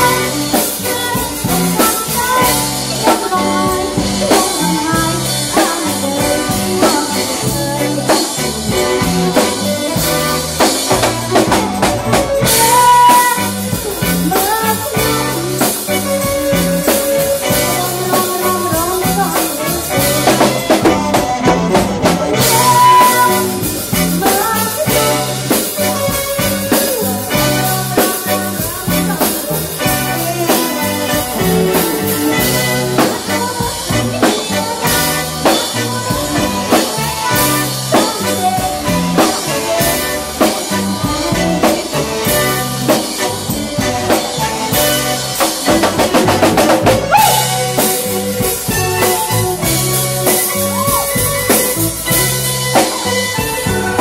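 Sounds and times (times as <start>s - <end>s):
bass guitar line: 0.0s - 54.0s
drum kit beat: 0.0s - 54.0s
fast drum roll: 0.0s - 54.0s
woman singing: 0.0s - 54.0s.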